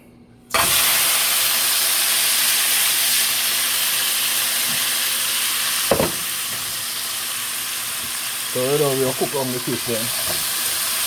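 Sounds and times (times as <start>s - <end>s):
vegetables sizzling in hot oil: 0.6s - 11.0s.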